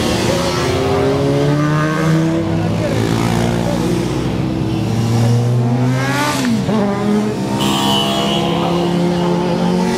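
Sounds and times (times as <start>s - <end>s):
motorcycle engines running: 0.0s - 9.9s.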